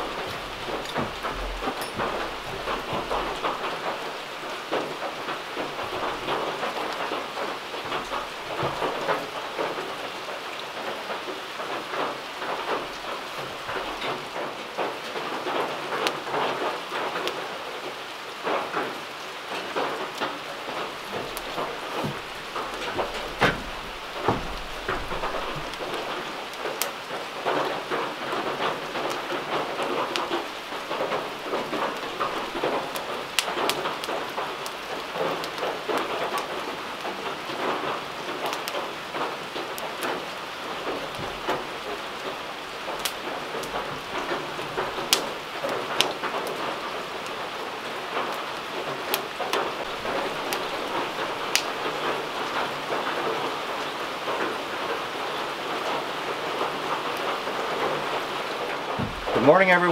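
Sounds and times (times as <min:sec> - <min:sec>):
fire popping: 0:00.0 - 0:17.4, 0:18.4 - 0:59.9
wood fire crackling: 0:00.0 - 0:59.9.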